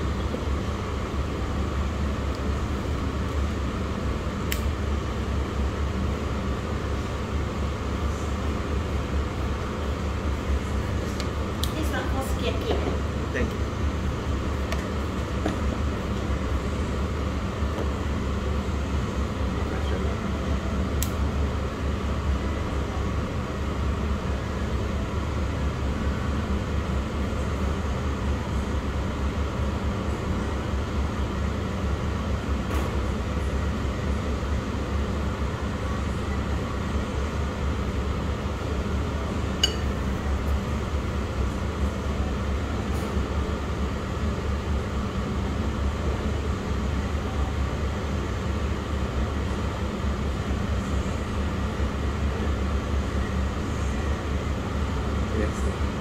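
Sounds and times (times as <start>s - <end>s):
low rumbling background noise: 0.0s - 56.0s.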